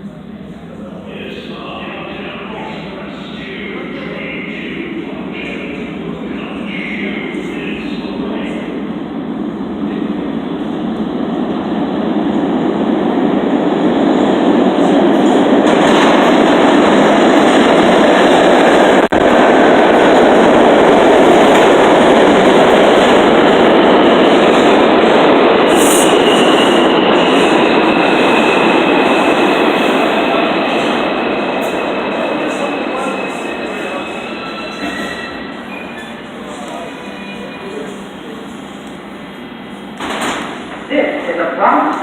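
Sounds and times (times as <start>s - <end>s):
subway train wheels rumbling on rail: 0.0s - 42.0s.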